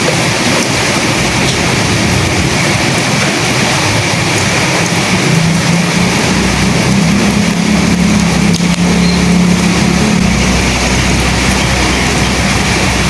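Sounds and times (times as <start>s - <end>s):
rain and wind hiss: 0.0s - 13.0s
low humming rumble: 0.1s - 13.0s.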